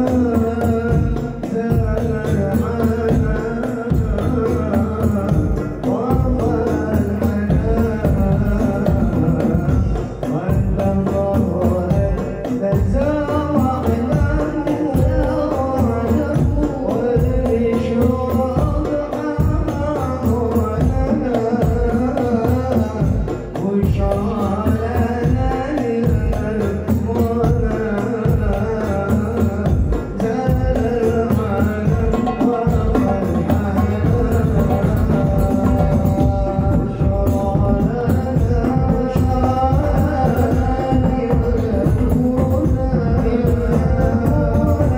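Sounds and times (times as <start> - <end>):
frame drums and bass drum beating: 0.0 - 44.9
voices singing devotional verses: 0.0 - 44.9.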